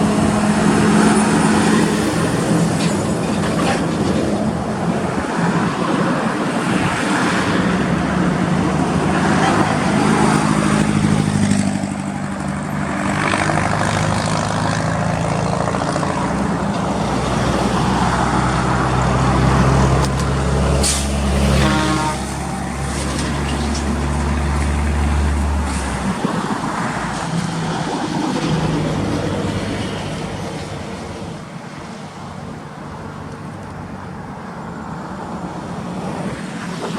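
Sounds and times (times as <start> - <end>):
truck engine droning: 0.0 - 36.0.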